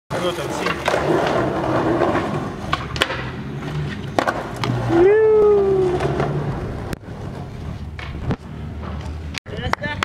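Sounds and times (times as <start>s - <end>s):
skateboard wheels rolling on pavement: 0.1s - 10.0s
skateboard clacks: 0.2s - 10.0s.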